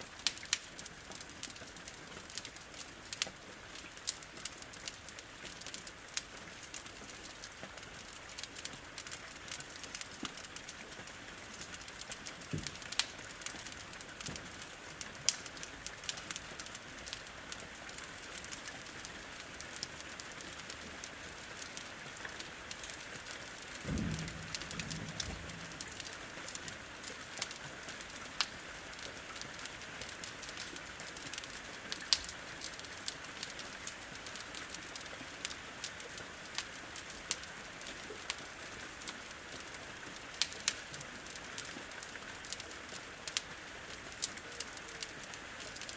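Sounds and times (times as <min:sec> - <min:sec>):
rain pattering on a window: 0:00.0 - 0:45.9
wood fire crackling: 0:00.1 - 0:45.9.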